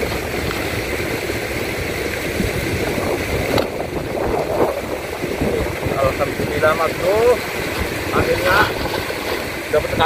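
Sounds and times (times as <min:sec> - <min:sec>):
water falling from a spout: 0:00.0 - 0:10.0.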